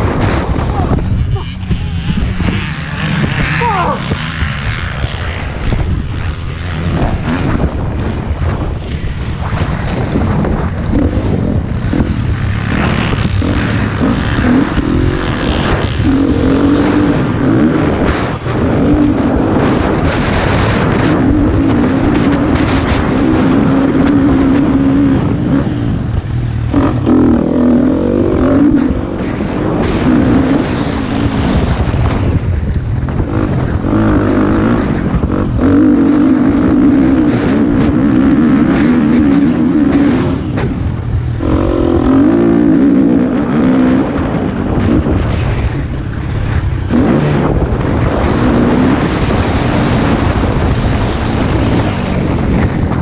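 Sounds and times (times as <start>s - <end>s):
motocross bike engine revving: 0.0s - 53.0s
wind buffeting microphone: 0.0s - 53.0s.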